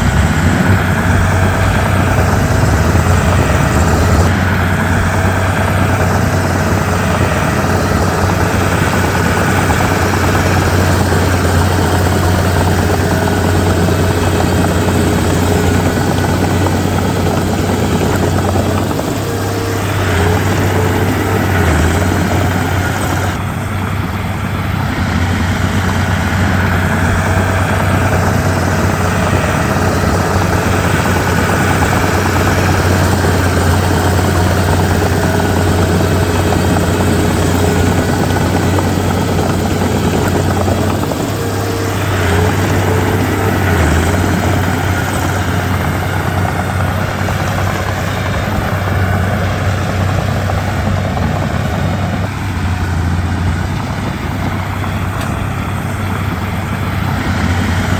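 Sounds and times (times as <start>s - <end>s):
bulldozer diesel engine droning: 0.0s - 57.9s.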